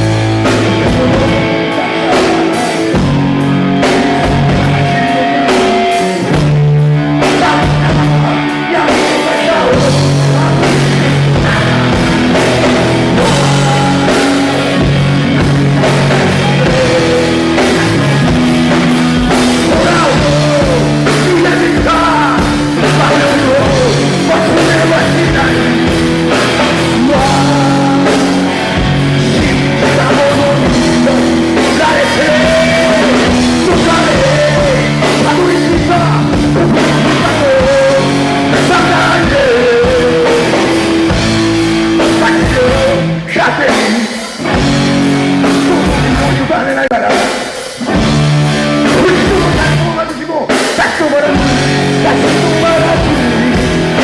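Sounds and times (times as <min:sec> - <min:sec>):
bass guitar: 0:00.0 - 0:54.0
distorted electric guitar: 0:00.0 - 0:54.0
drum kit: 0:00.0 - 0:54.0
person singing: 0:00.0 - 0:54.0.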